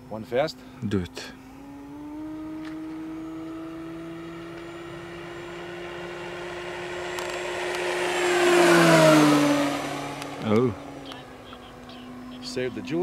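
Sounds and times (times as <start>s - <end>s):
model plane propeller whine: 1.4s - 13.0s.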